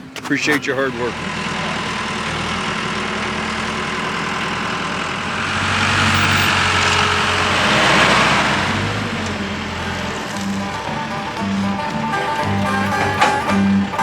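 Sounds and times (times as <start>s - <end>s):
engine running with low hum: 0.0s - 14.0s.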